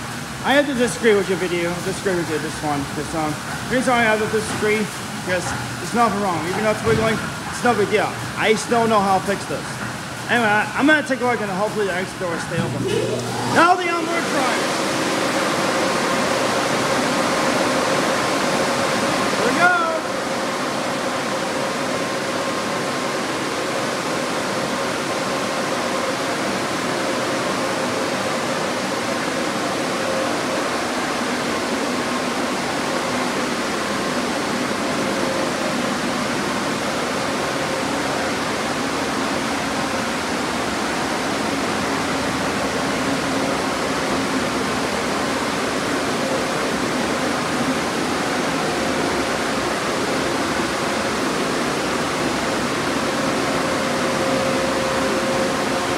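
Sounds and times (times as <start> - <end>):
dryer air rushing: 0.0 - 55.9
faint fan hum: 0.0 - 55.9.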